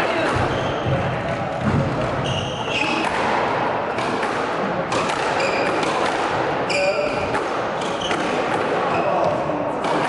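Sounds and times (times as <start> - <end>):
squash ball thudding: 0.2 - 10.0.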